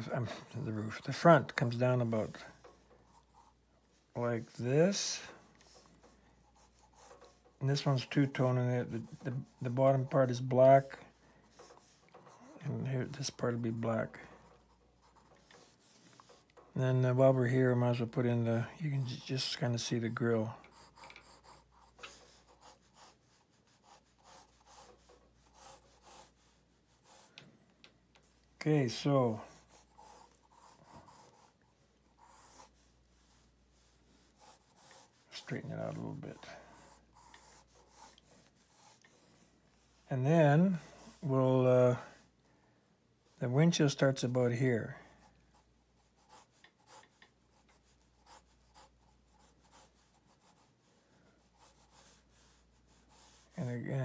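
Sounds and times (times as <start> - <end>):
pencil scratching on paper: 0.0 - 17.7, 18.5 - 27.4, 28.2 - 41.3, 45.1 - 53.9.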